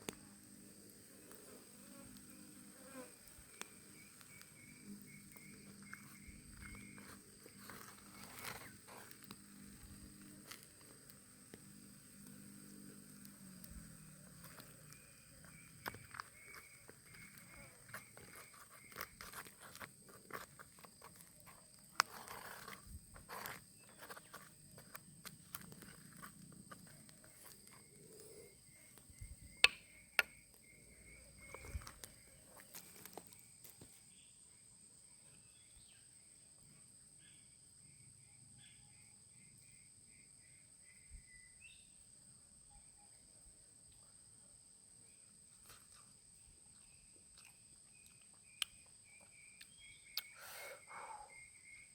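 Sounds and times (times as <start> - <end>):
crickets chirping: 0.0 - 51.9
insect drone: 0.0 - 51.9.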